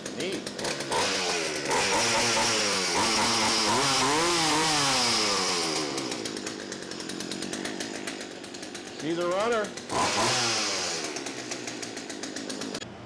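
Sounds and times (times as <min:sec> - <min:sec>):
chainsaw revving: 0:00.0 - 0:12.9.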